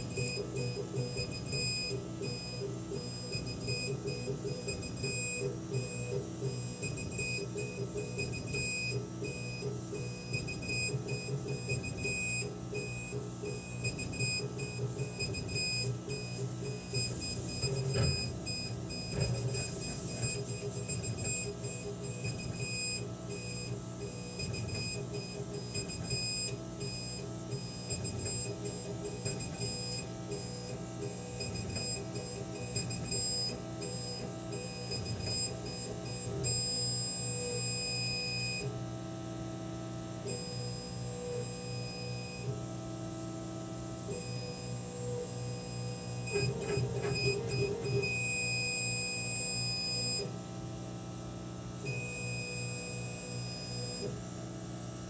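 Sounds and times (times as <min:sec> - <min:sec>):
laser cutter hum: 0:00.0 - 0:55.0.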